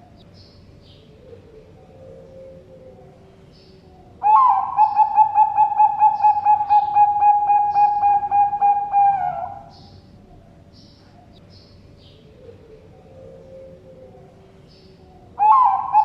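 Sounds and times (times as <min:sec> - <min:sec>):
dove cooing: 0:00.9 - 0:11.4, 0:12.0 - 0:16.0.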